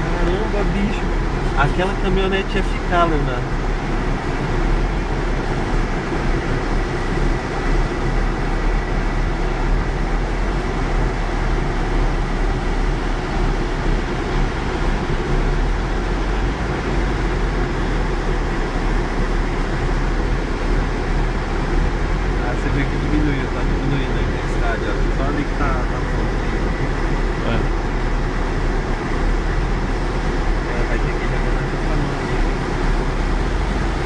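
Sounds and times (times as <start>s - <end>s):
heavy rain downpour: 0.0s - 28.0s, 28.6s - 34.0s
low rumble: 0.0s - 34.0s.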